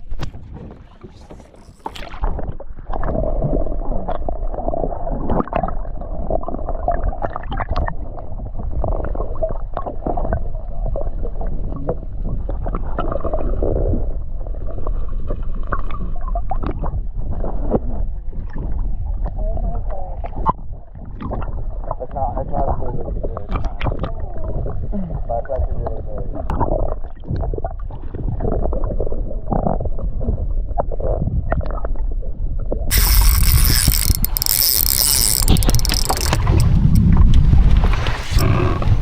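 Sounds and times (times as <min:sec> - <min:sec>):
water gurgling and sloshing: 0:00.0 - 0:39.0.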